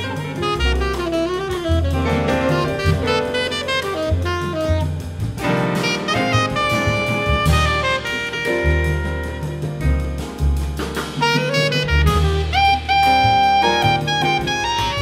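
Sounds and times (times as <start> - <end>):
saxophone: 0.0 - 10.4, 11.0 - 15.0
double bass: 0.0 - 15.0
drum kit: 0.0 - 15.0
grand piano: 0.0 - 15.0.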